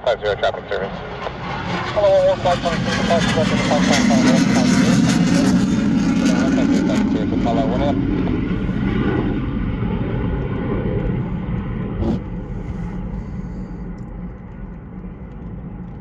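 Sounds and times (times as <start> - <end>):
jet aircraft rumble: 0.0 - 16.0.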